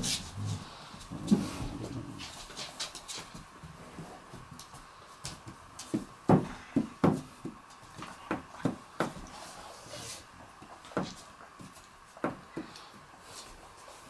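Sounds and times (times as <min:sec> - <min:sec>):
dogs scuffling on wooden floor: 0:00.0 - 0:14.0.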